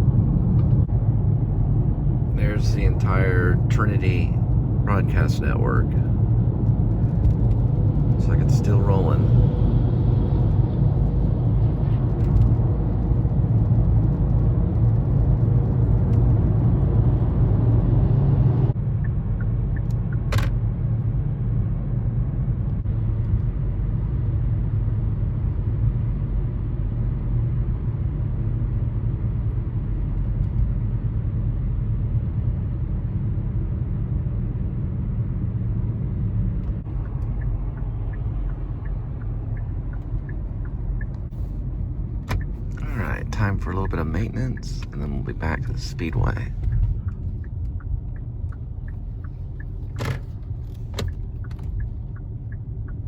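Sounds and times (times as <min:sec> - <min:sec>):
road and engine rumble: 0:00.0 - 0:53.0.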